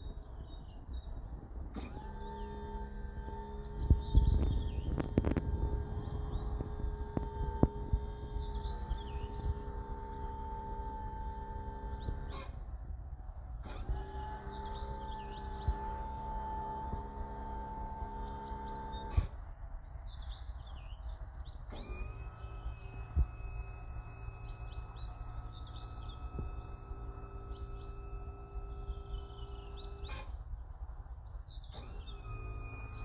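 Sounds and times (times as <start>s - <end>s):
birds chirping: 0.0s - 12.6s, 13.8s - 19.2s, 19.8s - 30.2s
boom lift drive whining: 0.0s - 19.5s, 21.6s - 30.6s, 31.4s - 33.0s
low outdoor rumble: 0.0s - 33.0s.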